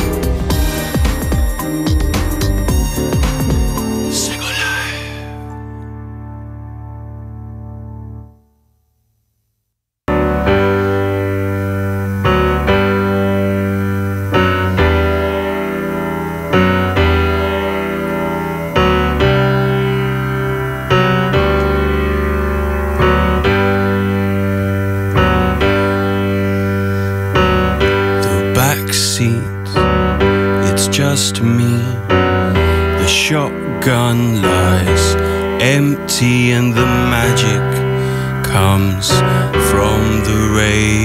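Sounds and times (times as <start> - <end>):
keyboard playing sustained chords: 0.0 - 8.5, 10.1 - 41.0.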